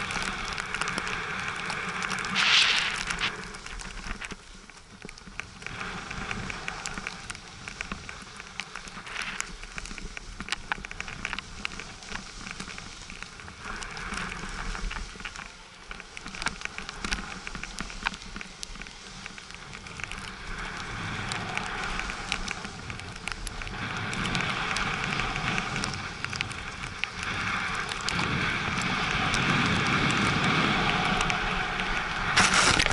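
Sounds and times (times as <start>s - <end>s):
skis scraping over snow: 0.0s - 32.9s.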